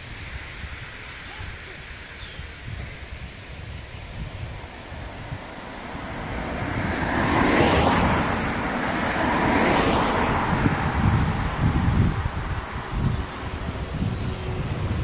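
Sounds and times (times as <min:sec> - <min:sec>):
wind buffeting microphone: 0:00.0 - 0:15.0
vehicle passing on road: 0:01.9 - 0:15.0.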